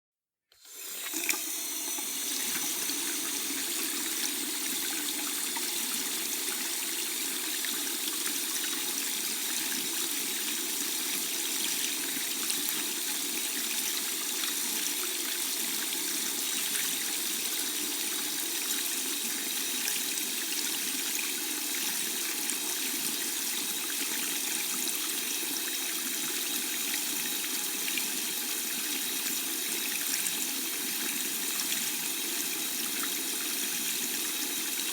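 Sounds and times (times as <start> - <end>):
tap water pouring into sink: 0.6 - 34.9.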